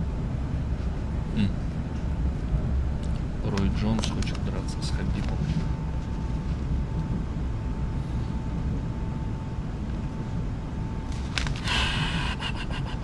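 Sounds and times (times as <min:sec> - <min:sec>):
thin steady whine: 0:00.0 - 0:13.0
train carriage rumble: 0:00.0 - 0:13.0.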